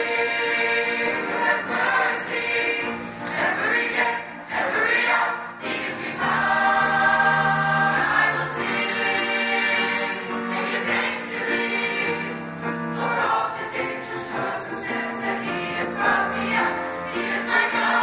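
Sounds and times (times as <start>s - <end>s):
choir singing: 0.0s - 18.0s
piano accompaniment: 0.0s - 18.0s.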